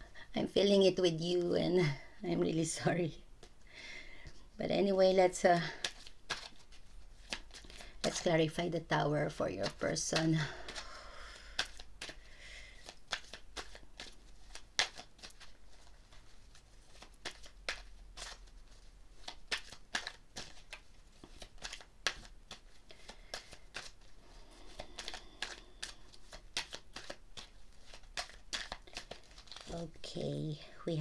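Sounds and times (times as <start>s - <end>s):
cards being shuffled: 5.5s - 31.0s.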